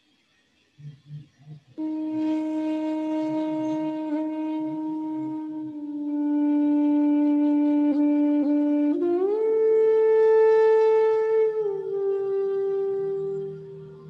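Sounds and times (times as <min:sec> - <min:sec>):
lead instrument long notes: 0:00.9 - 0:14.0.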